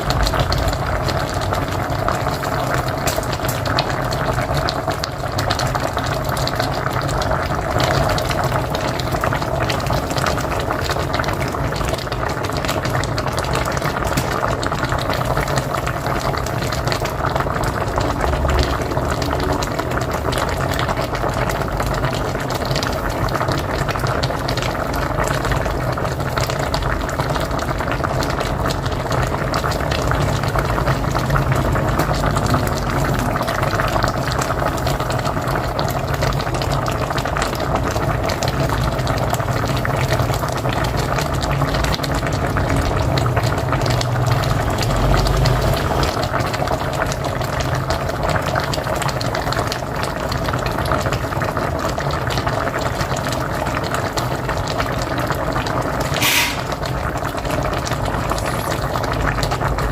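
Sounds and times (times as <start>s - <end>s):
pot boiling hard: 0.0s - 59.9s.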